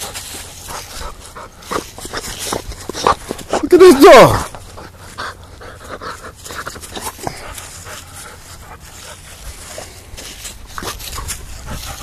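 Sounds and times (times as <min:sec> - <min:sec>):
dog panting and snuffling: 0:00.0 - 0:12.0
rustling and scuffing: 0:00.0 - 0:12.0.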